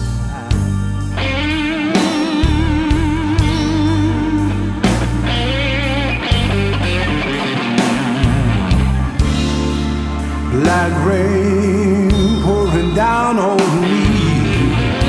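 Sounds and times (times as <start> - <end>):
live blues band playing: 0.0 - 15.0.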